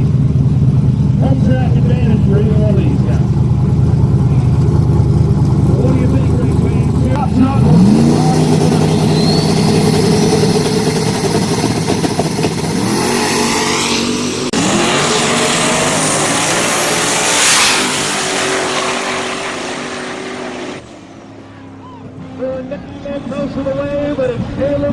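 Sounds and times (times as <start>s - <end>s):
drag race engines at full throttle: 0.0s - 24.9s.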